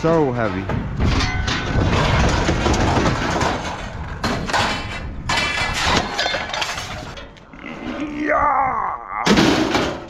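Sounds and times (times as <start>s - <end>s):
heavy metal scraping and clanking: 0.0s - 8.2s.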